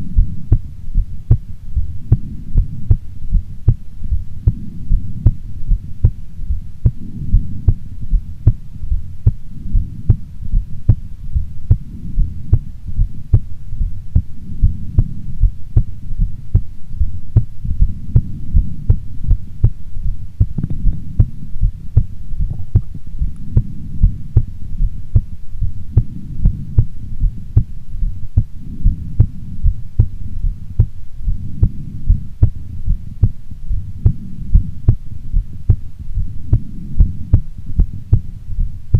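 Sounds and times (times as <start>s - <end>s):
heartbeat thuds: 0.0s - 38.9s
low rumbling hum: 0.0s - 38.9s.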